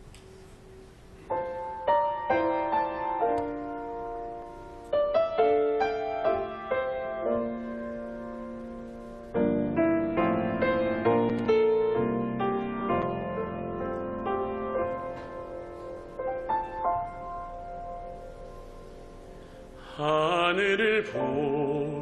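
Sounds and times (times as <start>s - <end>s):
slow gentle piano: 0.0s - 22.0s.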